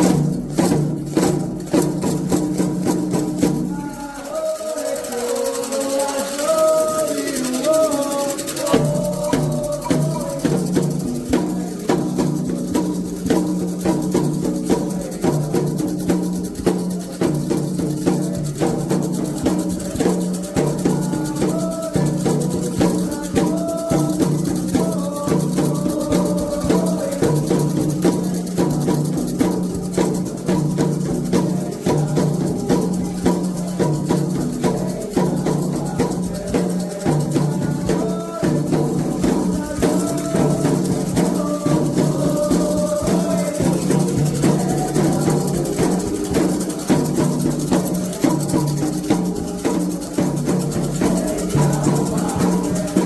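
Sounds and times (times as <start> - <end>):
hand drums and shakers: 0.0 - 53.0
voices singing a chant: 0.0 - 53.0.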